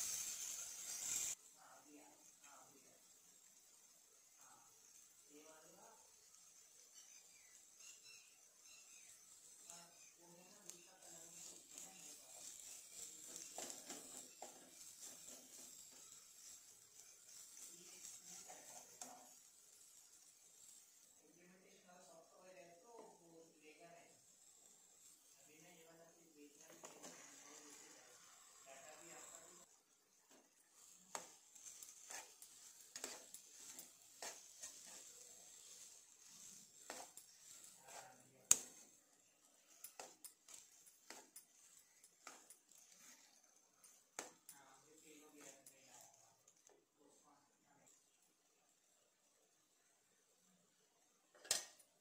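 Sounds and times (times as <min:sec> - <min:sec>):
steel spoon stirring in pan: 0:00.0 - 0:52.0
vegetables sizzling in a pan: 0:00.0 - 0:52.0.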